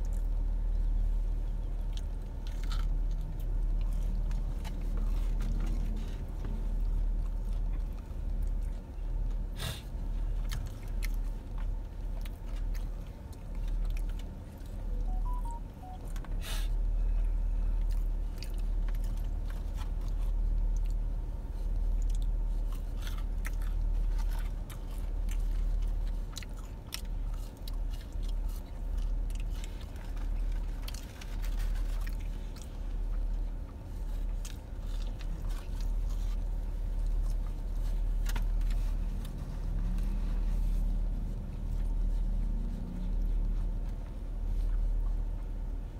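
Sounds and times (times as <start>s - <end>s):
chewing and crunching food: 0.0s - 45.9s
low rumble inside car: 0.0s - 45.9s.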